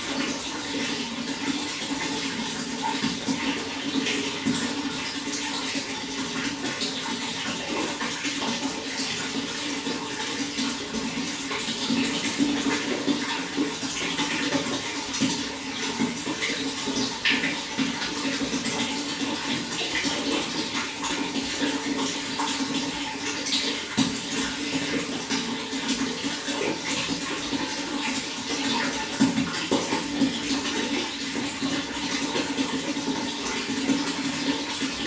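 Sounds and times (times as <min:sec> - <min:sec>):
water running and splashing: 0:00.0 - 0:35.0.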